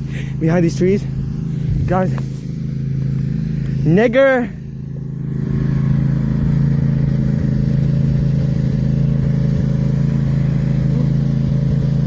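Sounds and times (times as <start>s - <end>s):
engine running low and even: 0.0s - 12.0s.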